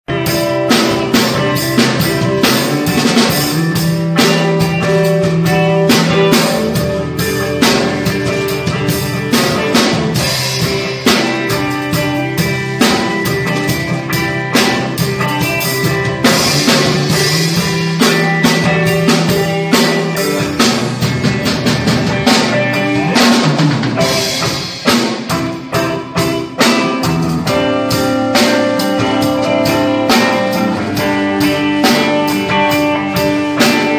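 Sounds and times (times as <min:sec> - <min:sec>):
drum kit playing a groove: 0:00.0 - 0:33.9
held pitched notes: 0:00.3 - 0:33.9.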